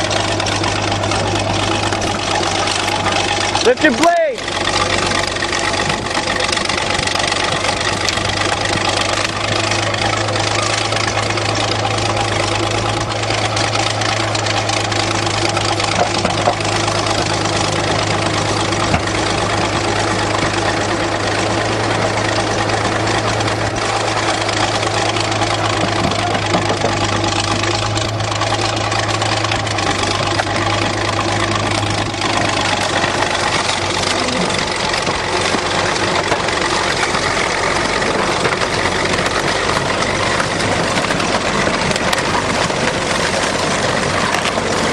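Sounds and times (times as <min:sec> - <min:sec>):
engine idling with low hum: 0:00.0 - 0:44.9.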